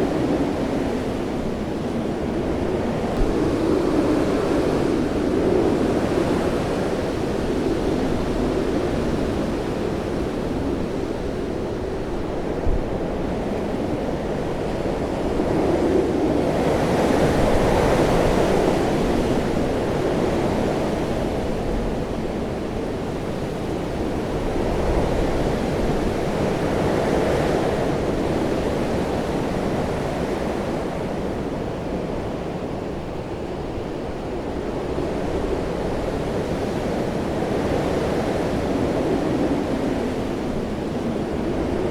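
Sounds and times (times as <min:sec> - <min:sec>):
strong gusting wind: 0:00.0 - 0:41.9.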